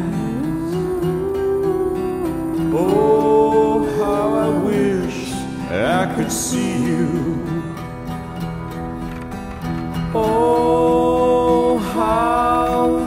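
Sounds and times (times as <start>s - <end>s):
slow music with sliding notes: 0.0s - 13.0s.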